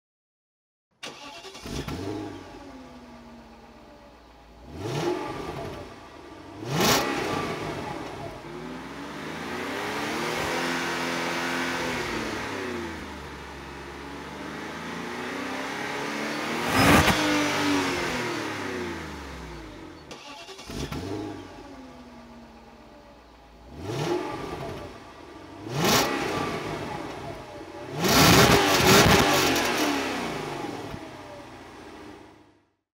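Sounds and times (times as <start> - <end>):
car engine revving: 1.0 - 32.4.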